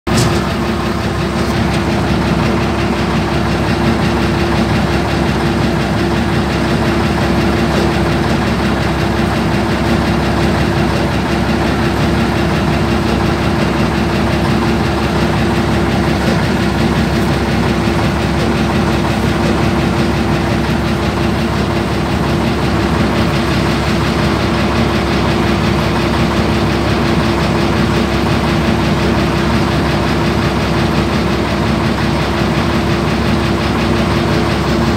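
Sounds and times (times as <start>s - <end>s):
heavy diesel engine droning: 0.0s - 34.9s.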